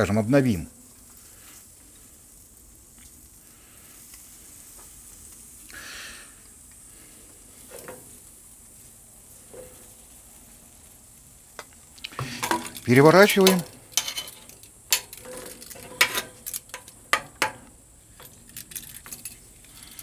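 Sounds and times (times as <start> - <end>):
ribs sizzling over charcoal: 0.0 - 20.0.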